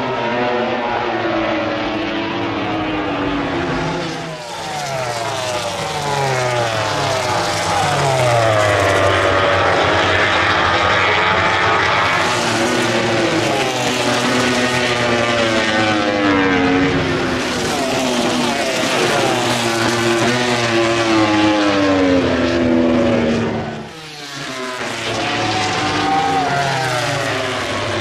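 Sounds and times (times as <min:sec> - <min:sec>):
race motorcycles passing: 0:00.0 - 0:28.0.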